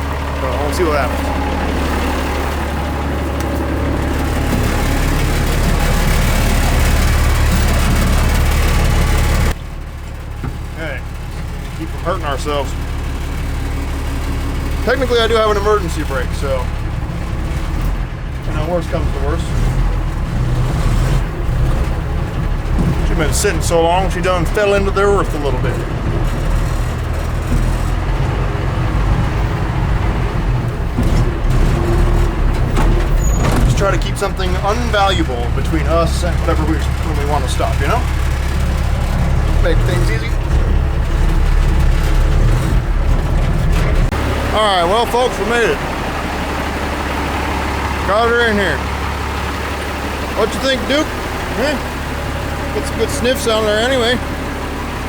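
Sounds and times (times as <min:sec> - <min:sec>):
truck engine running under load: 0:00.0 - 0:55.0.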